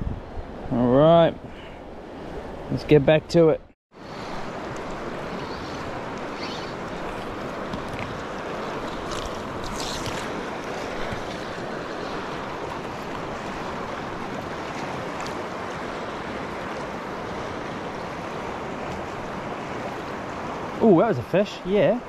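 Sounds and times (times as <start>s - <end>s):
river current rushing: 4.0s - 22.0s.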